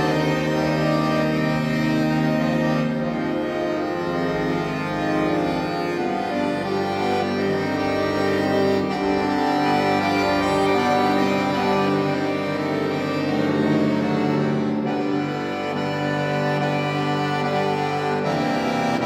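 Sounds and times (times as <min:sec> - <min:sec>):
accordion playing chords: 0:00.0 - 0:19.0.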